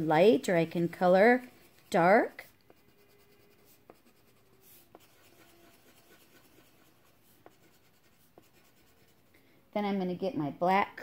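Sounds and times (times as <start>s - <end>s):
crayon scratching on paper: 0.0s - 9.3s.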